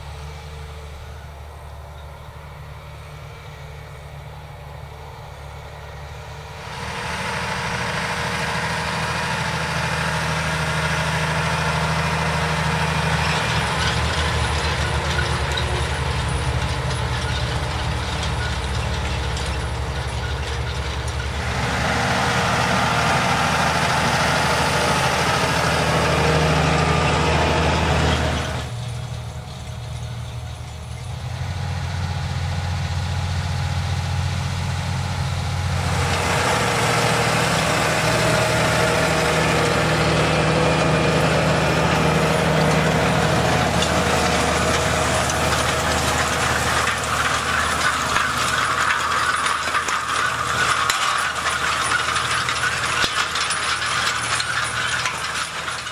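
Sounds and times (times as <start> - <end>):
tractor engine under load: 0.0 - 55.9
cultivator tines rattling in soil: 4.6 - 32.8, 35.3 - 55.9.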